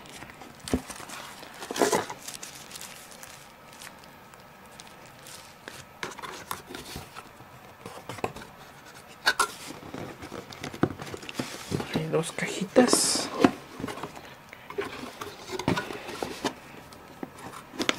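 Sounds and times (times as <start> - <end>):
paper and cardboard rustling: 0.0 - 17.9.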